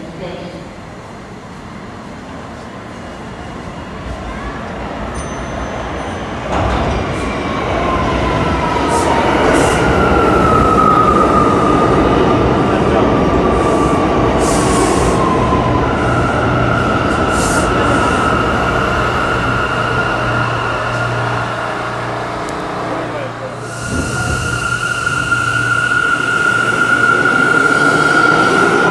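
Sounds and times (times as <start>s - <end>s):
subway train rumble: 0.0s - 28.9s
train whine gliding down: 5.2s - 28.9s.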